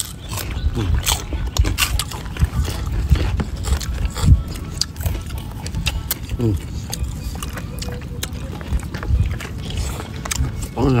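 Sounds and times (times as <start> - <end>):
people chewing and lip-smacking: 0.0 - 11.0.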